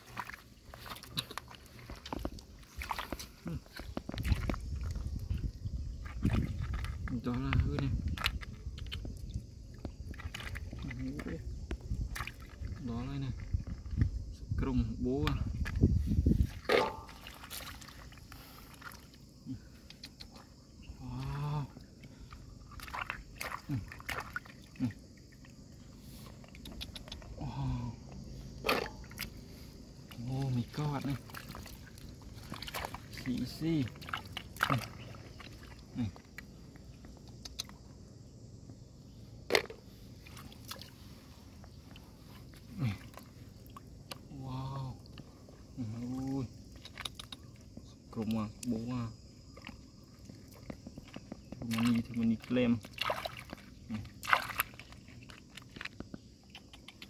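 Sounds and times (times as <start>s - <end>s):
water splashes and plops: 0.0s - 14.2s, 15.2s - 27.4s, 28.6s - 37.9s, 39.4s - 48.8s, 49.4s - 57.0s.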